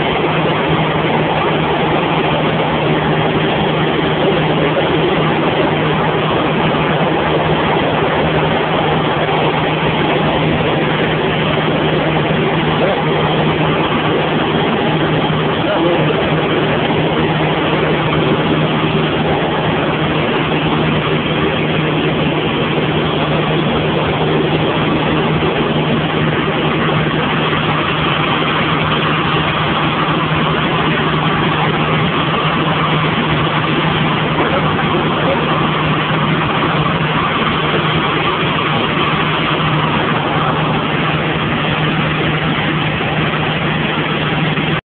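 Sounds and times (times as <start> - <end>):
propeller plane engine droning: 0.0 - 44.8.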